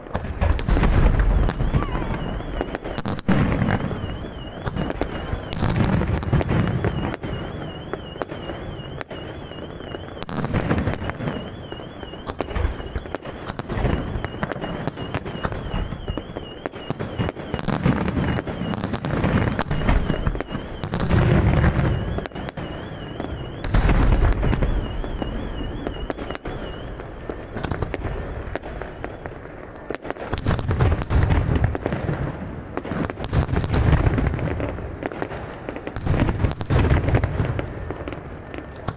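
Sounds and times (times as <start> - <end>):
fireworks crackling and popping: 0.0 - 38.9
fireworks deep booms: 0.0 - 38.9.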